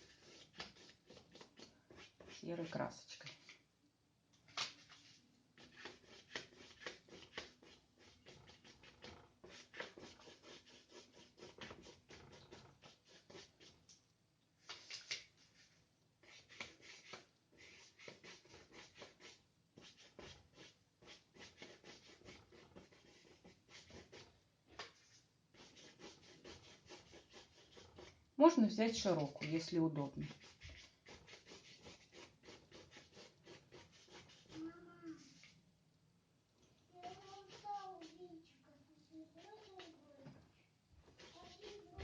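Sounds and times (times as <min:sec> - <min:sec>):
paintbrush scrubbing on paper: 0:00.0 - 0:03.6, 0:04.5 - 0:14.0, 0:14.6 - 0:35.6, 0:36.9 - 0:38.5, 0:39.1 - 0:40.2, 0:41.0 - 0:42.0.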